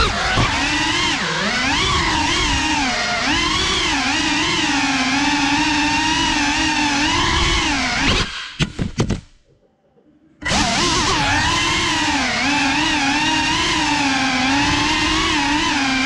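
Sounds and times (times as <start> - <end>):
drone motors whining: 0.0 - 8.4, 10.4 - 16.0.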